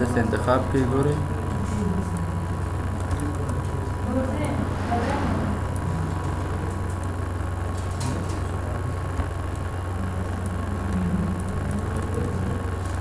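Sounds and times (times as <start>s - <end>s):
steady low hum: 0.0s - 13.0s
thin whine and hiss: 0.0s - 13.0s.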